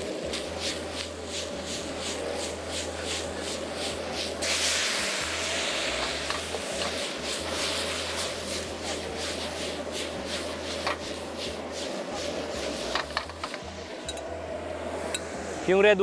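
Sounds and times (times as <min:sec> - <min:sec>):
vegetables sizzling in a wok: 0:00.0 - 0:14.2
wine hissing in hot wok: 0:00.0 - 0:14.2.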